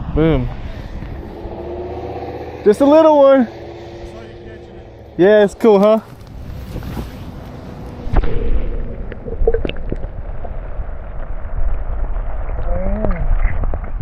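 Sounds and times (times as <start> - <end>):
wind gusting against microphone: 0.0 - 14.0.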